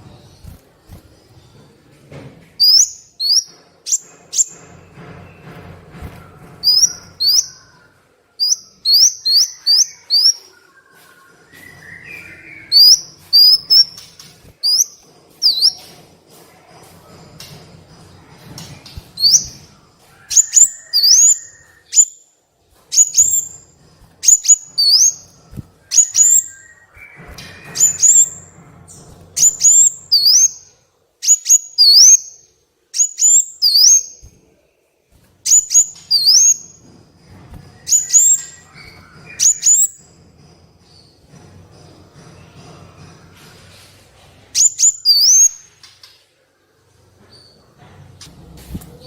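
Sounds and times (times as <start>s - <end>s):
songbird chirping: 0.0s - 43.9s.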